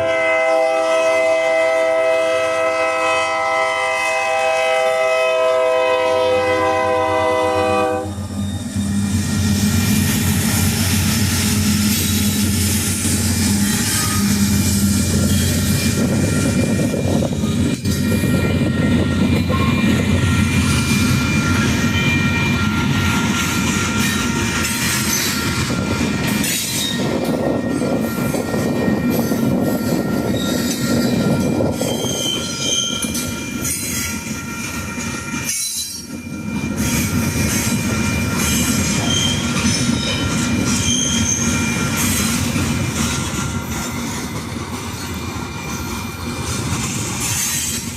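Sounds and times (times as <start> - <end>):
freight train rumbling and clattering: 0.0 - 47.9
train wheels squealing: 7.9 - 47.9.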